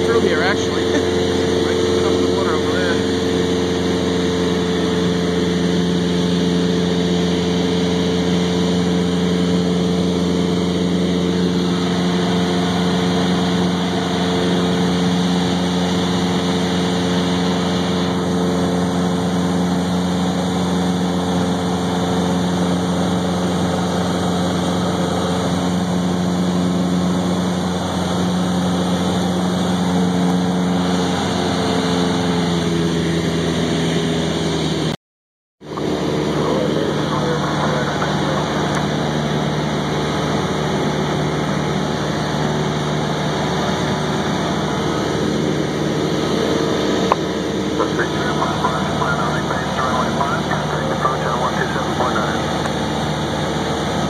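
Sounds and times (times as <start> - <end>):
propeller plane engine droning: 0.0 - 35.0, 35.6 - 54.0.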